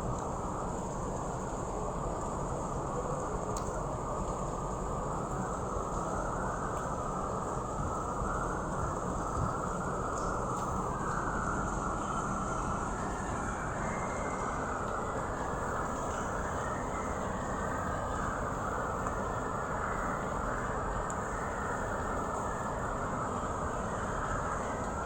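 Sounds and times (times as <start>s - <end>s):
steady rainfall: 0.0s - 25.0s.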